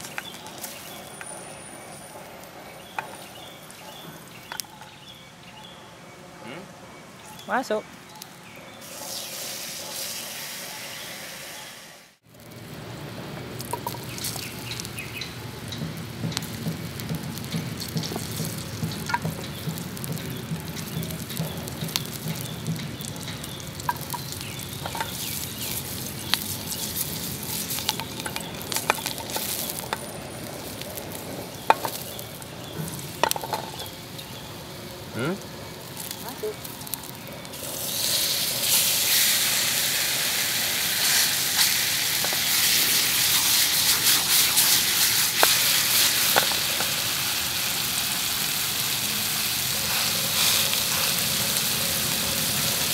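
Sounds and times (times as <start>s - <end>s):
garlic sizzling in hot oil: 8.8s - 52.9s.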